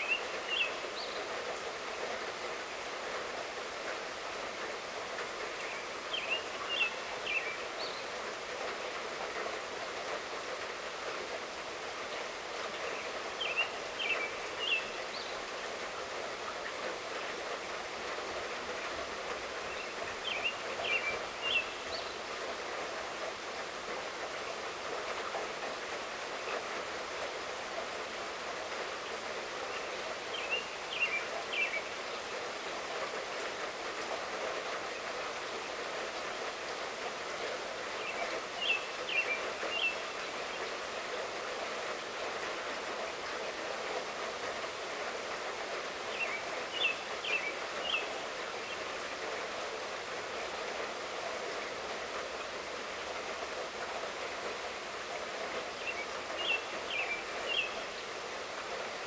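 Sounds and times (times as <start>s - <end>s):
light rainfall: 0.0s - 59.0s.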